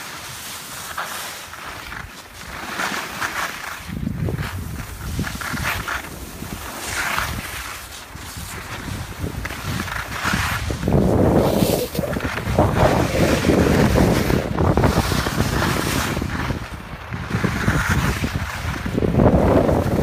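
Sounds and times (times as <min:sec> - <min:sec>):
skis sliding over snow: 0:00.0 - 0:20.0
wind buffeting microphone: 0:03.8 - 0:20.0.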